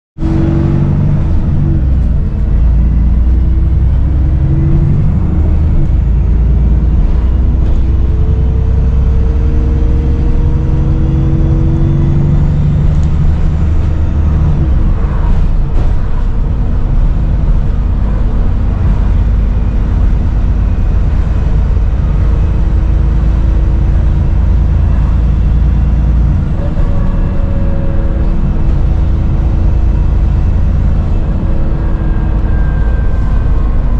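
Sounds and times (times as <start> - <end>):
bus diesel engine rumbling: 0.2 - 33.9.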